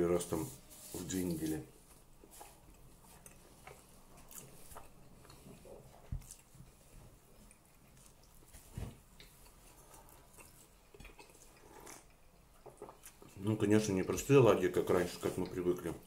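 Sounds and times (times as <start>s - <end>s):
chewing: 1.8s - 15.9s.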